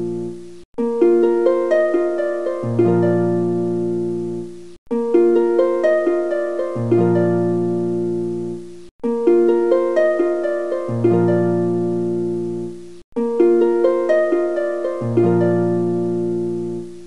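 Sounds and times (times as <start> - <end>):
plucked-string melody: 0.0 - 17.0.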